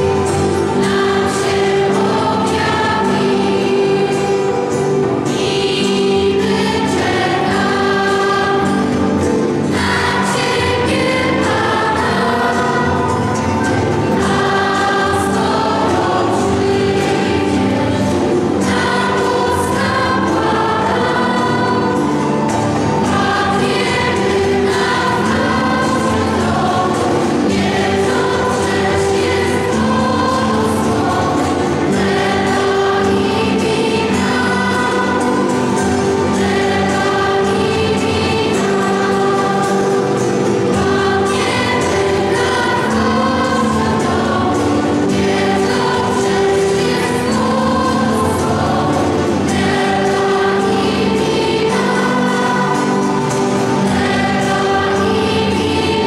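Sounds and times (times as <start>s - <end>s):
choir singing a carol: 0.0s - 56.0s.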